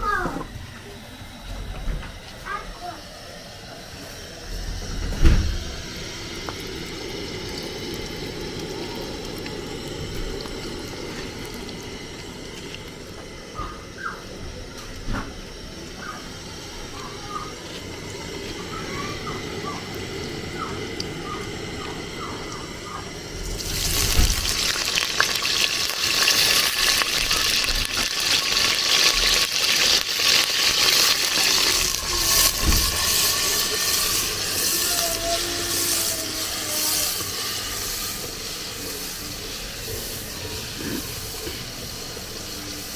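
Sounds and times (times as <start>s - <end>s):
food cooking rumble: 0.0s - 42.9s
loud steady hiss: 0.0s - 42.9s.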